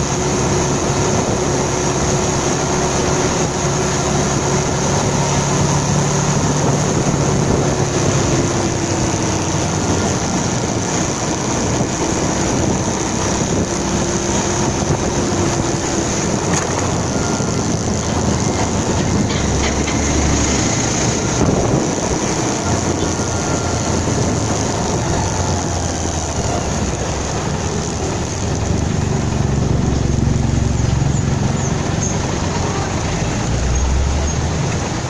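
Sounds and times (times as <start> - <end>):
motorcycle engine: 0.0 - 35.0
wind and road noise: 0.0 - 35.0.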